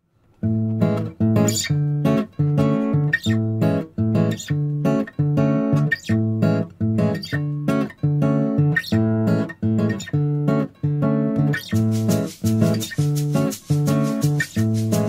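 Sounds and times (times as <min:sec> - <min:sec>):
guitar chords strummed: 0:00.4 - 0:15.0.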